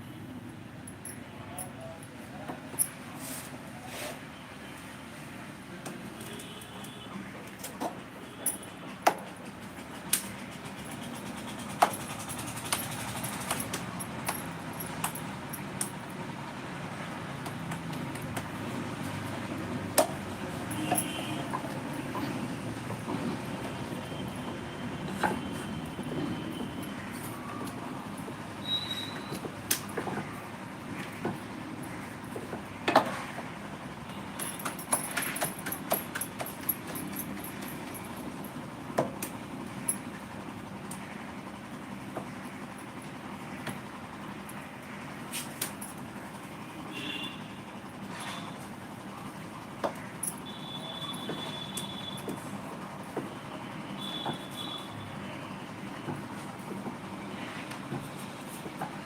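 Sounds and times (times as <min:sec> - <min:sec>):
low background hum: 0:06.2 - 0:59.0.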